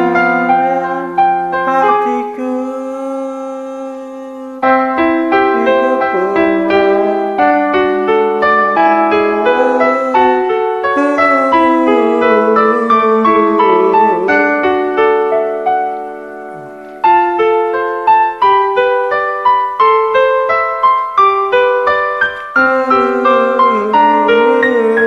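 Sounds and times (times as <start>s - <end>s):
pop ballad on piano: 0.0s - 25.0s.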